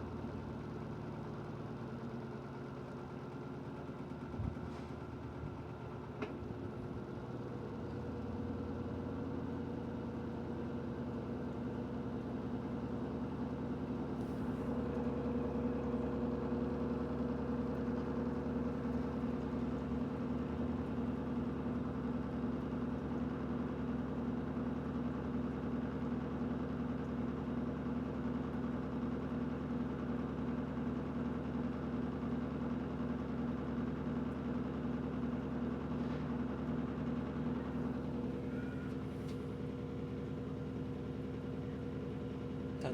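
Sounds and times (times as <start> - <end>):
washing machine spin cycle: 0.0 - 42.9.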